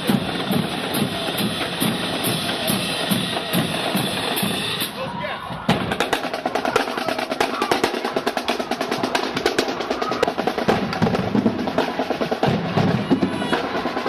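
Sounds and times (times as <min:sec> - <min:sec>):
snare drums rolling: 0:00.0 - 0:14.0.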